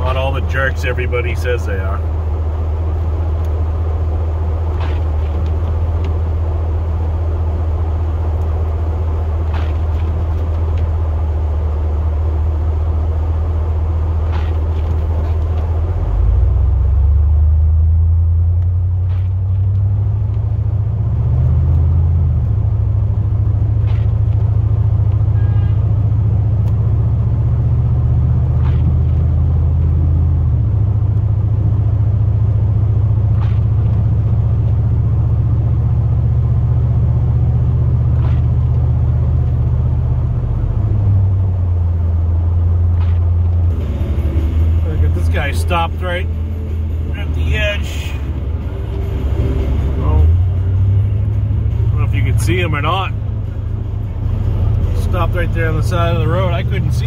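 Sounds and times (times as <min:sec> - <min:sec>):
truck engine drone from inside cab: 0:00.0 - 0:57.0.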